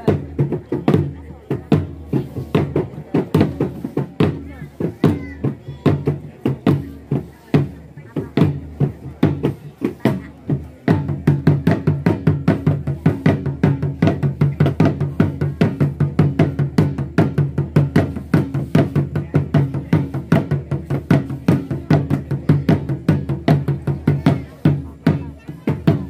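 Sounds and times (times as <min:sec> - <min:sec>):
fast drum strokes: 0:00.0 - 0:26.0.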